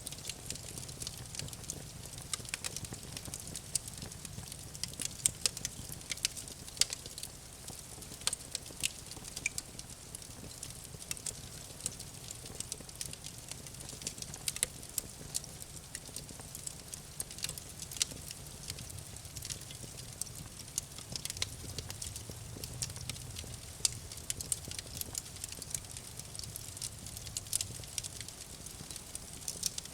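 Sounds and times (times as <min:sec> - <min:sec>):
campfire crackling: 0:00.0 - 0:29.9.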